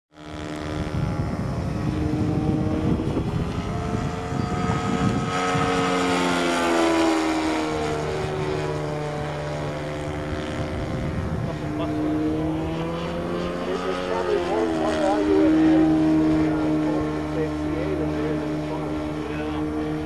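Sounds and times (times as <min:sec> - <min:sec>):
model plane engine droning: 0:00.1 - 0:20.0.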